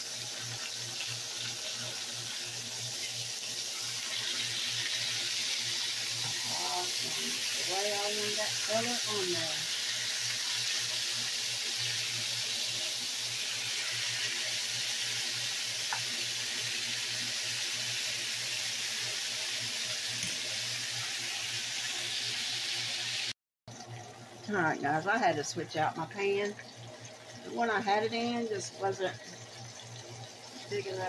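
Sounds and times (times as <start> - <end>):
meat sizzling in hot oil: 0.0 - 31.0.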